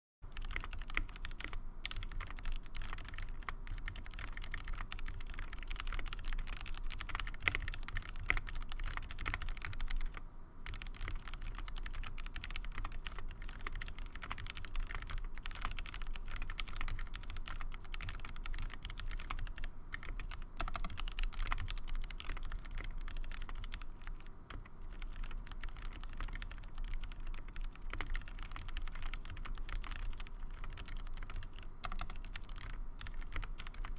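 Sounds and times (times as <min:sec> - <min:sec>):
mechanical keyboard typing: 0:00.3 - 0:33.9.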